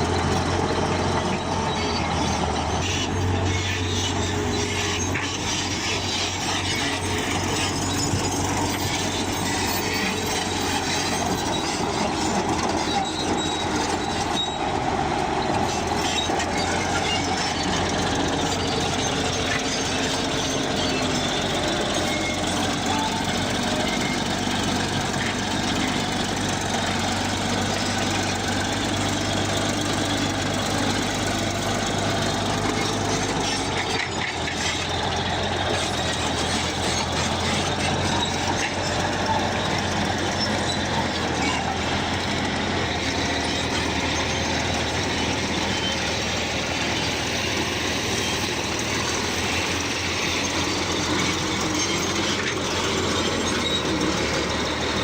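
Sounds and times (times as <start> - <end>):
diesel engine running: 0.0 - 55.0
steel tracks clattering and squealing: 0.0 - 55.0.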